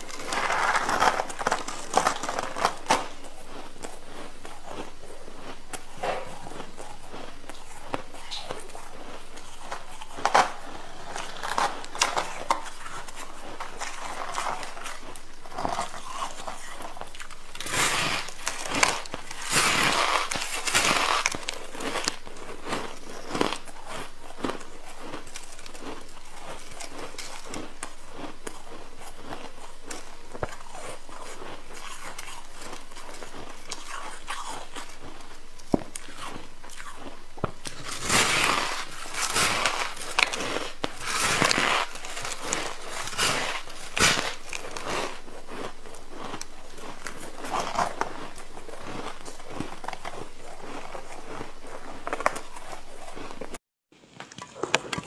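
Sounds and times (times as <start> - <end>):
ice crackling and crunching: 0.0 - 55.0.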